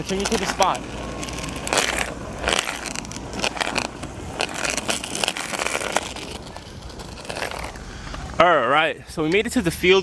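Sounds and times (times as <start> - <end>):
grit crackling under wheels: 0.0 - 10.0
skateboard wheels rolling on pavement: 0.0 - 10.0.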